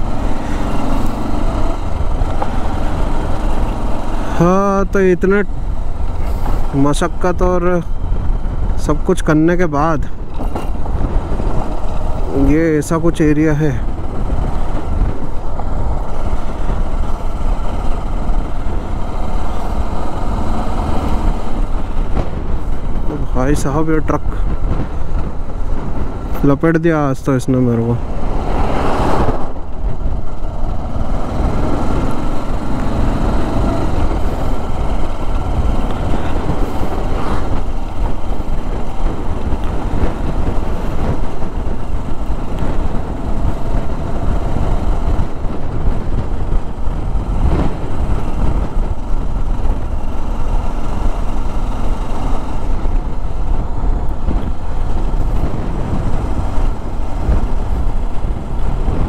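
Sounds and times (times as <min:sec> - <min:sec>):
passing truck engine: 0:00.0 - 0:08.8, 0:09.6 - 0:59.0
motorcycle engine running: 0:00.0 - 0:26.4, 0:28.0 - 0:59.0
wind rumble on microphone: 0:00.0 - 0:59.0.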